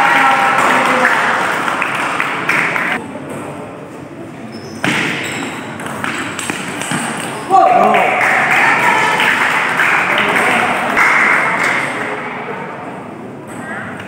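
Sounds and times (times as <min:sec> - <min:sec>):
hubbub of spectators' voices: 0:00.0 - 0:05.8, 0:06.5 - 0:14.0.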